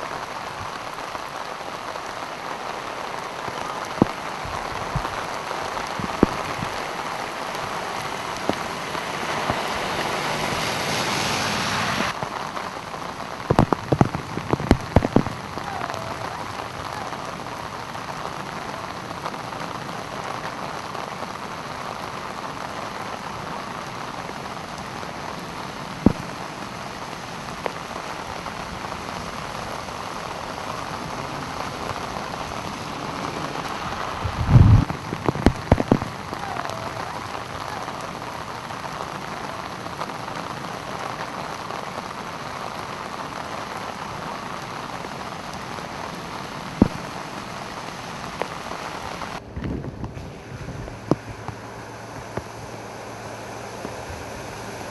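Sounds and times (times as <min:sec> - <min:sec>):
truck driving through floodwater: 0:00.0 - 0:14.4, 0:15.1 - 0:54.9
floodwater runoff rushing: 0:00.0 - 0:54.9
heavy rain: 0:00.0 - 0:54.9.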